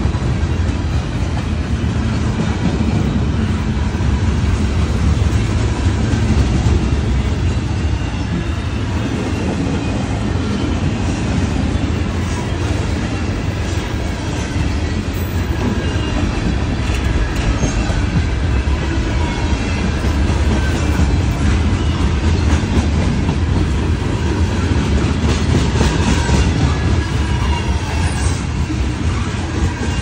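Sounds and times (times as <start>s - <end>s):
freight train rumble: 0.0s - 30.0s.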